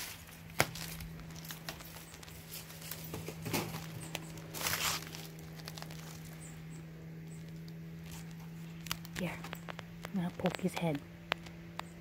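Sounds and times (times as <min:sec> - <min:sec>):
dry leaves and twigs rustling: 0:00.0 - 0:12.0
low steady hum: 0:00.0 - 0:12.0.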